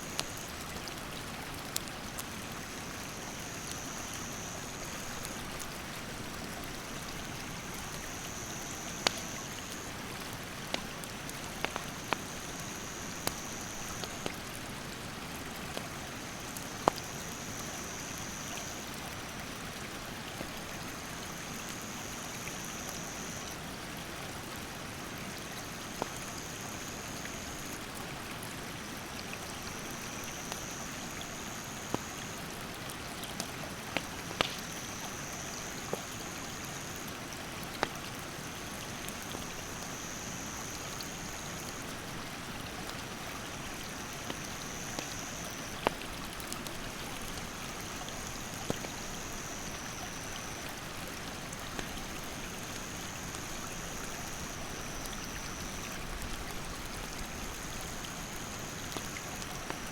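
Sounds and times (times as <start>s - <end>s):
campfire crackling: 0.0s - 22.4s, 28.9s - 59.9s
stream water rushing: 0.0s - 59.9s.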